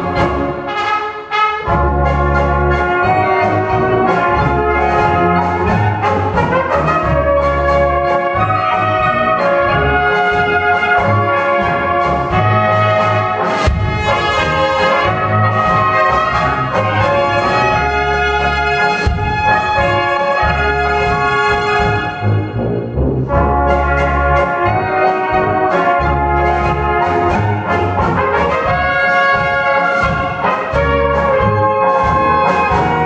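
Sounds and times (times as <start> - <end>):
brass band playing a polka: 0.0 - 33.0
trumpets leading: 0.0 - 33.0
tuba bass line: 0.0 - 33.0.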